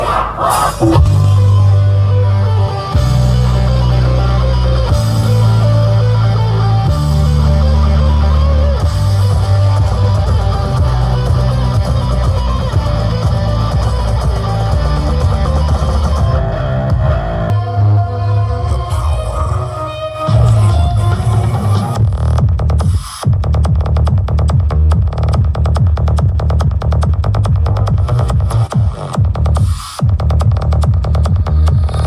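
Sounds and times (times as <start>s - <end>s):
very loud bass-heavy music: 0.0s - 32.0s.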